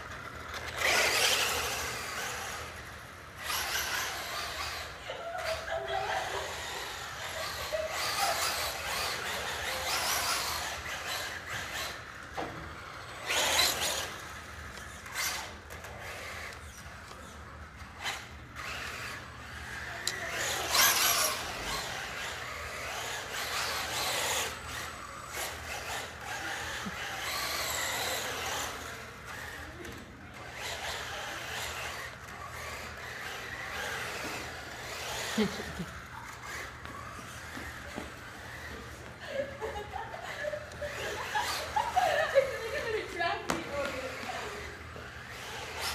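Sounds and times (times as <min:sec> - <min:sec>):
toy truck electric motor whine: 0:00.0 - 0:45.9
tyres on tile floor: 0:00.0 - 0:45.9.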